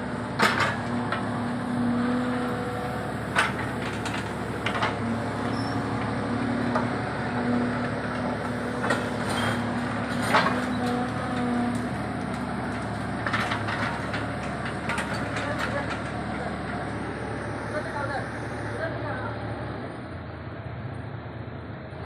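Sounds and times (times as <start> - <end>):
mini excavator running: 0.0 - 21.2.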